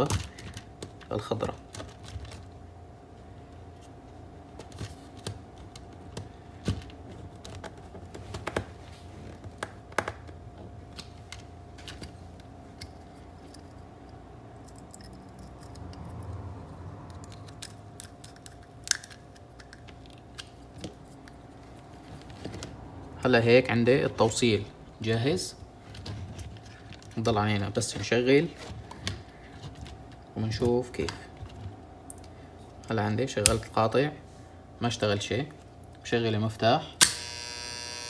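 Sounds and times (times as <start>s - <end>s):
wires clicking and rustling: 0.0s - 2.7s, 3.4s - 23.0s, 25.2s - 33.9s.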